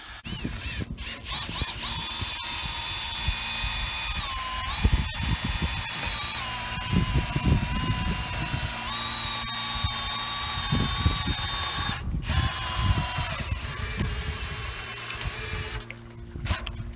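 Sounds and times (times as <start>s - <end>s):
cordless drill motor whining: 0.0s - 16.9s.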